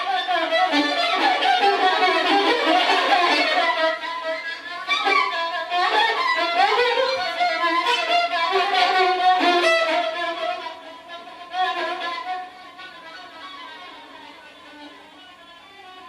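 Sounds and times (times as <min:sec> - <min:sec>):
experimental bowed string music: 0:00.0 - 0:16.0.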